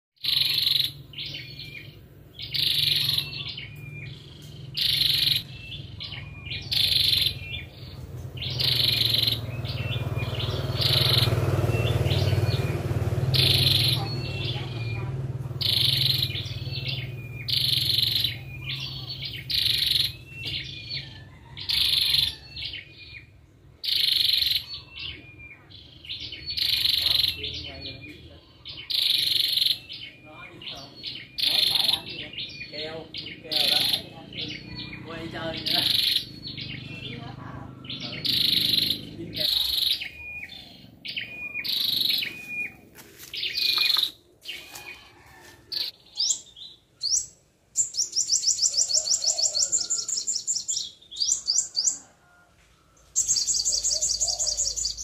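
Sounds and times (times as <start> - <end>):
short high bird calls: 0.2 - 52.1, 53.0 - 55.0.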